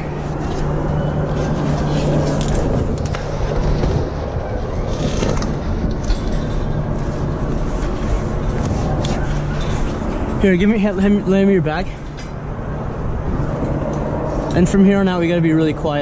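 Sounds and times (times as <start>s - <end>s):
city traffic rumble: 0.0s - 16.0s
constant low hum: 0.0s - 16.0s.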